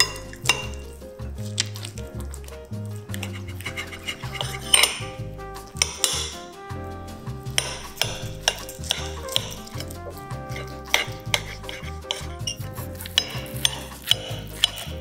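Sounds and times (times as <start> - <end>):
knife and fork scraping a plate: 0.0 - 2.5, 3.1 - 6.5, 7.5 - 15.0
soft background music: 0.0 - 15.0.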